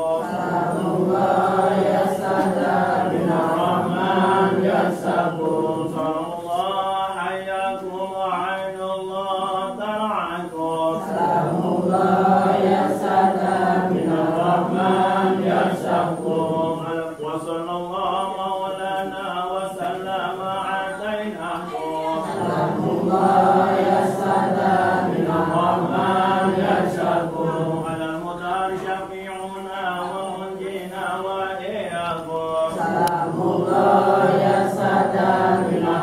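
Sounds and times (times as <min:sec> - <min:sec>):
crowd chanting: 0:00.0 - 0:07.8, 0:09.1 - 0:29.0, 0:29.8 - 0:36.0.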